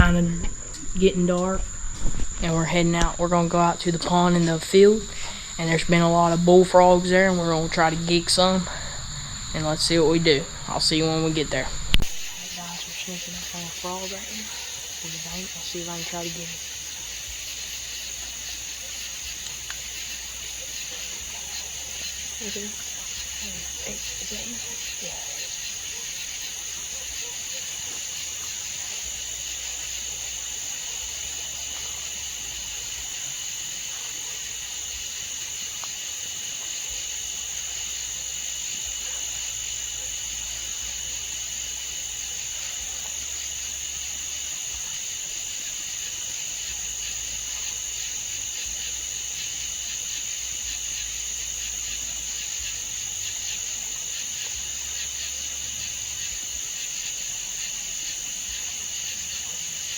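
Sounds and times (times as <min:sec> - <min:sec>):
high insect trill: 0:00.0 - 0:59.9
lower insect trill: 0:00.0 - 0:59.9.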